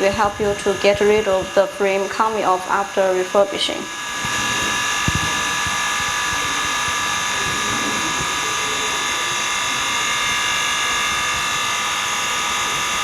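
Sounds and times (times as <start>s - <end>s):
machine hiss and whine: 0.0s - 13.0s.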